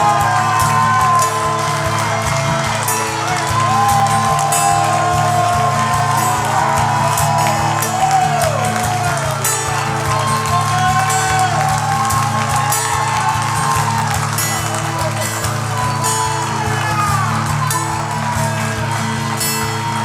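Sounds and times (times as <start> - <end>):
church band music: 0.0 - 20.0
congregation cheering: 0.0 - 20.0.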